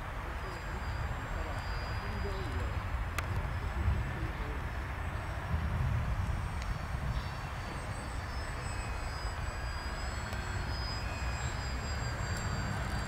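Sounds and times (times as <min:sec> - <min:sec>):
model aircraft whine: 0:00.0 - 0:13.0
low rumble: 0:01.0 - 0:13.0.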